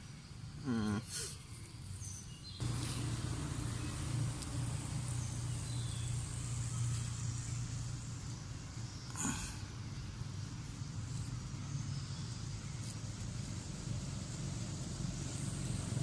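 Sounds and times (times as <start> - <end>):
low engine hum: 2.5 - 16.0.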